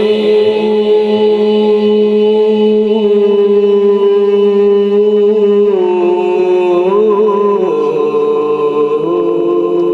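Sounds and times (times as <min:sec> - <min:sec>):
man reciting melodically into microphone: 0:00.0 - 0:09.9.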